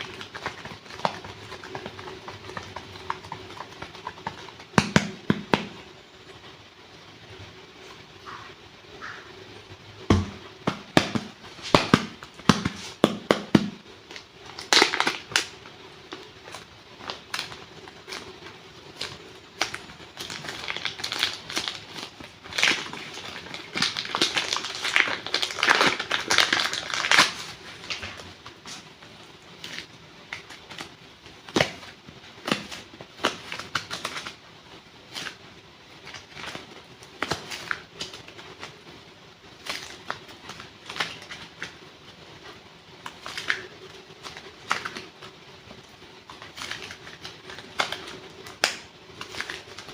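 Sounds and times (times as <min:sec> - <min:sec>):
wax crust crunching and crackling: 0:00.0 - 0:49.9.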